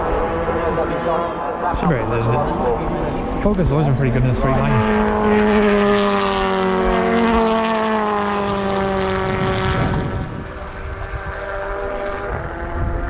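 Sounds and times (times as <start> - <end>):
another car engine: 0.0 - 13.0
car engine passing at speed: 0.0 - 13.0.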